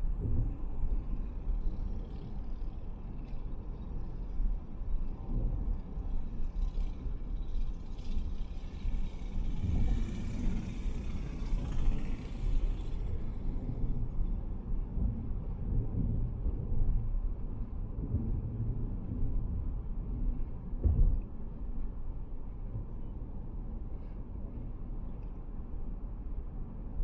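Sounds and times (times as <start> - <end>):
car tyre and engine rumble: 0.0 - 27.0.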